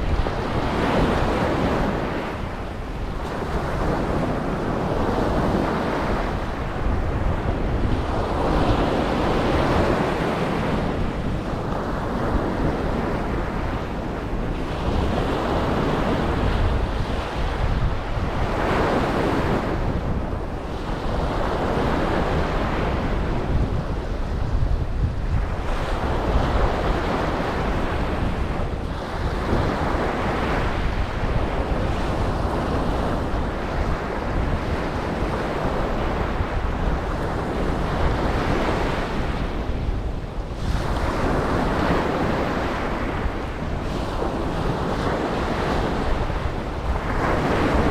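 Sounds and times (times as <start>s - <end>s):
ocean waves breaking: 0.0s - 47.9s
wind buffeting microphone: 0.0s - 47.9s.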